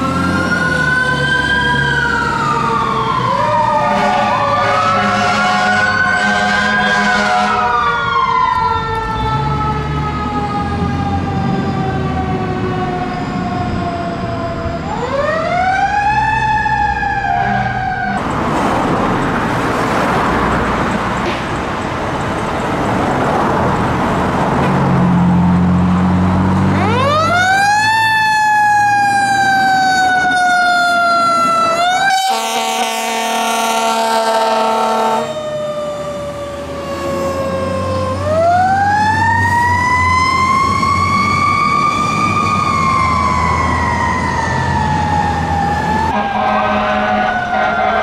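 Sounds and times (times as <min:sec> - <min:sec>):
fire truck siren wailing: 0:00.0 - 0:21.2, 0:21.8 - 0:48.0.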